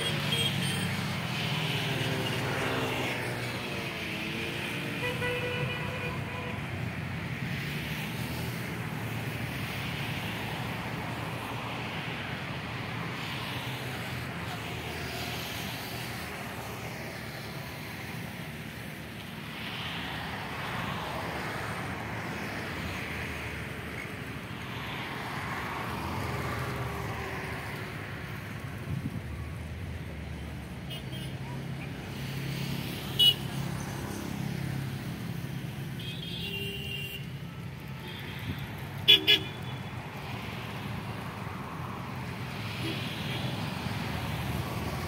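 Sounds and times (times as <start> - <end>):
distant road traffic rumble: 0.0 - 45.0.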